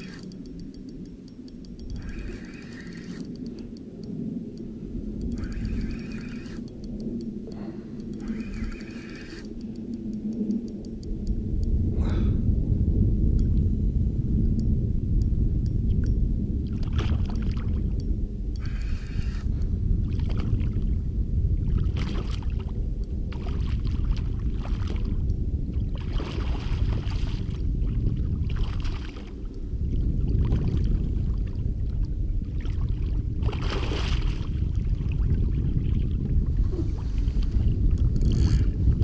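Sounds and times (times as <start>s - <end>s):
boat engine low rumble: 0.0s - 39.0s.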